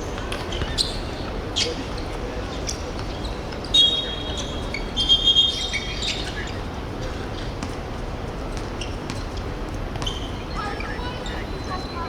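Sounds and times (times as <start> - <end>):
indoor sports hall noise: 0.0 - 12.0.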